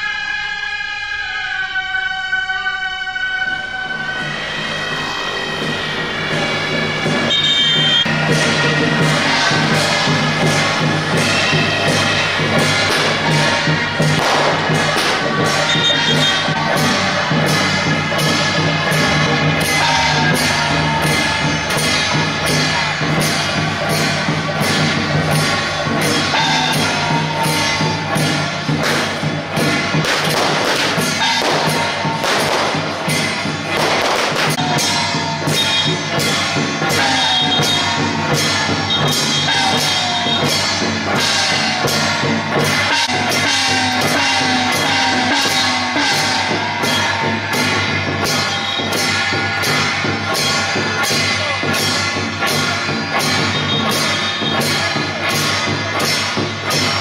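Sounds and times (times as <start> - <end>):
drum and percussion beat: 4.2 - 57.0.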